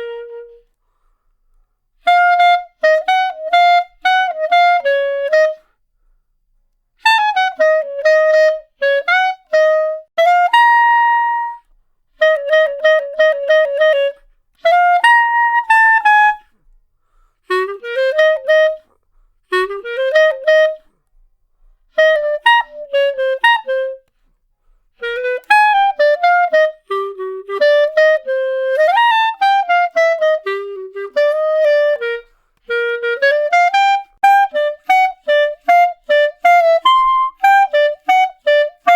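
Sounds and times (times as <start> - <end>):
clarinet playing quick notes: 0.0 - 0.8, 2.0 - 5.8, 7.0 - 16.7, 17.4 - 21.0, 21.9 - 24.3, 24.9 - 38.9.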